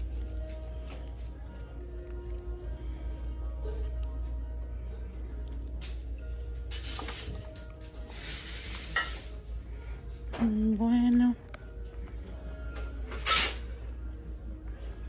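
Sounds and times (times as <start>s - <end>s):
faint background music: 0.0s - 15.0s
steady low hum: 0.0s - 15.0s.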